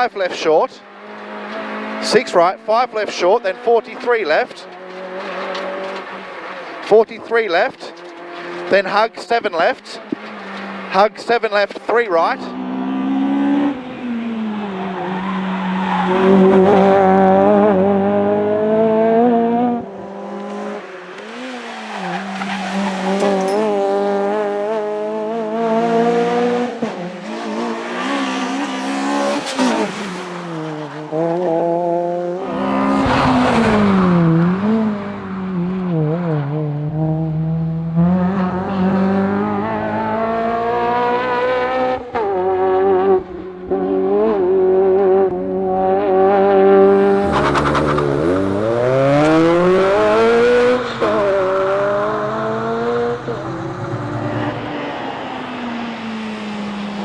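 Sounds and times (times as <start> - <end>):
car engine revving hard: 0.8 - 6.7, 12.2 - 57.0.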